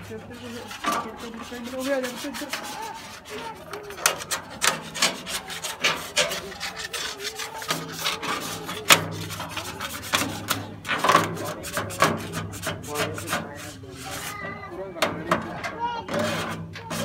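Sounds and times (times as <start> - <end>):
scraper scraping paint off metal: 0.0 - 17.0.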